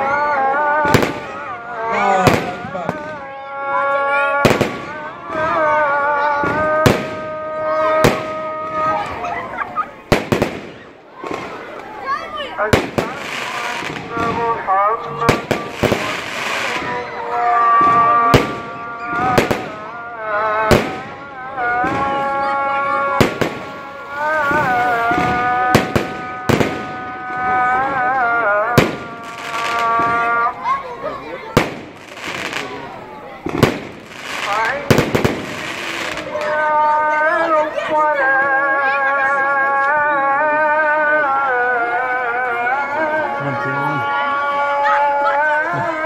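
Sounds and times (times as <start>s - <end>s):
chant in long held notes: 0.0s - 9.6s, 13.0s - 30.8s, 34.1s - 46.0s
firework bangs: 0.1s - 38.4s.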